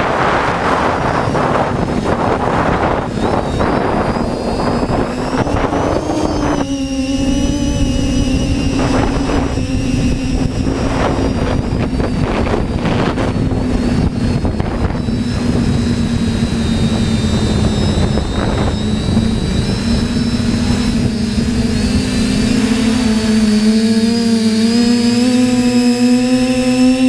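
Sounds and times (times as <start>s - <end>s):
quadcopter propellers droning: 0.0s - 27.0s
wind buffeting microphone: 0.0s - 27.0s.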